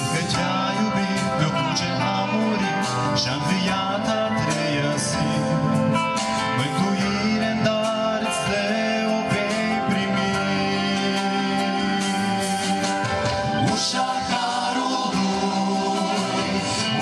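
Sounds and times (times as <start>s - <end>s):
man singing into microphone: 0.0s - 12.5s, 13.6s - 17.0s
amplified instrumental backing: 0.0s - 17.0s.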